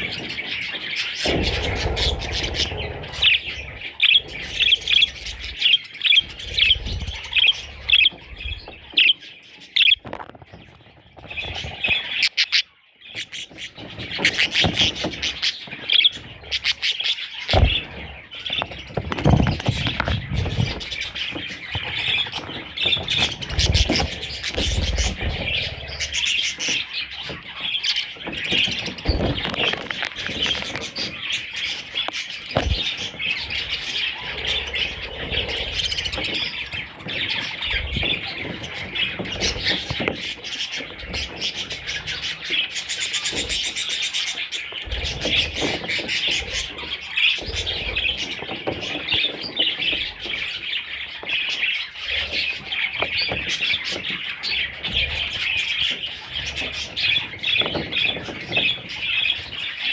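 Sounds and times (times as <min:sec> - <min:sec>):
bird chicks chirping: 0:00.0 - 0:59.9.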